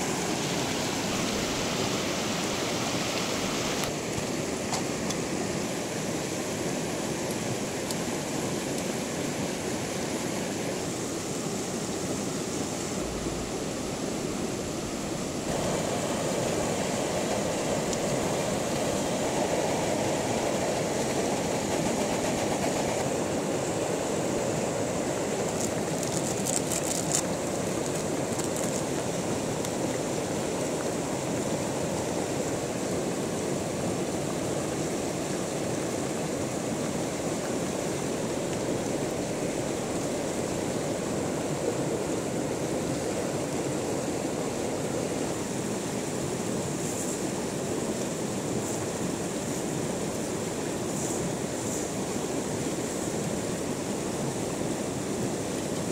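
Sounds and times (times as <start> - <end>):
fast water rushing over rocks: 0.0 - 55.9.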